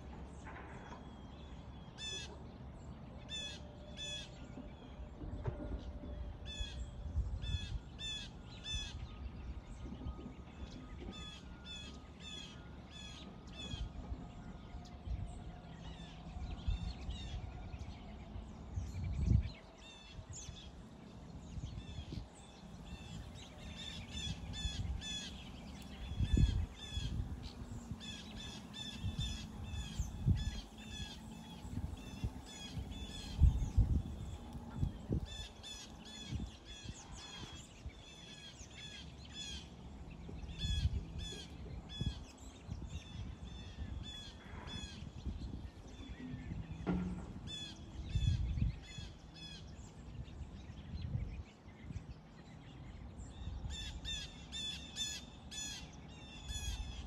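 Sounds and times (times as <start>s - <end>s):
birds chirping: 0.5s - 57.0s.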